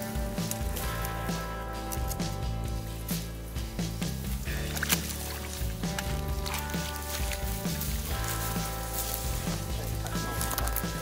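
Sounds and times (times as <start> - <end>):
background music with sustained chords: 0.0 - 11.0.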